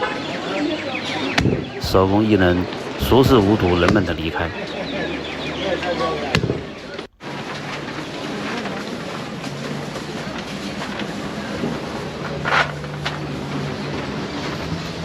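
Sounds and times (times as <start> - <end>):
outdoor street ambience: 0.0 - 15.0.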